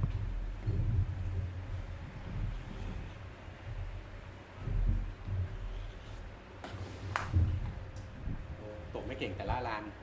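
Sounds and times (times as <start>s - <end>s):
wind buffeting microphone: 0.0s - 5.9s, 7.2s - 9.7s.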